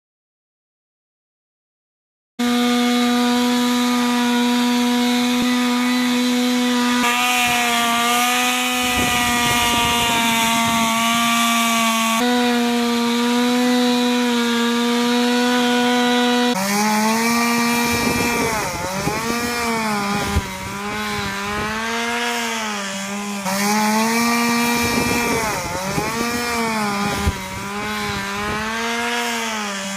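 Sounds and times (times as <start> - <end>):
chainsaw cutting tree trunk: 2.4 - 29.9.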